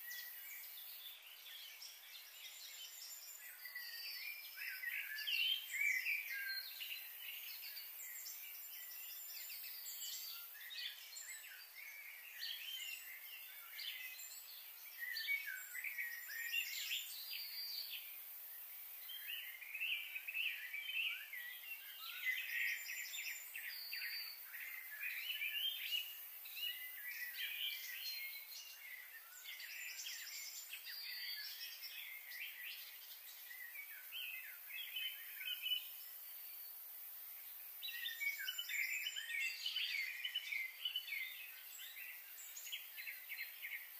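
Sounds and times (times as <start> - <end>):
faint outdoor hiss: 0.0 - 43.9.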